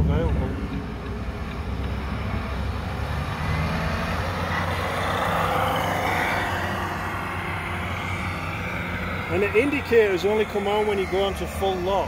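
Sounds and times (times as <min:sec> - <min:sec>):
rc truck motor and tyres: 0:00.0 - 0:12.0.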